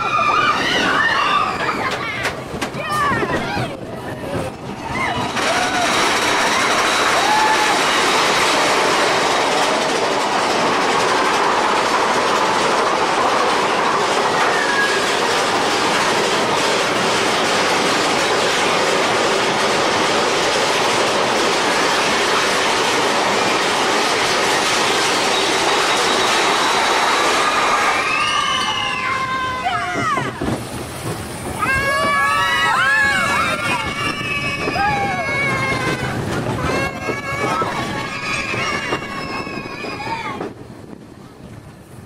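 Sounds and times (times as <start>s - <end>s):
roller coaster wheels rumbling: 0.0s - 42.0s.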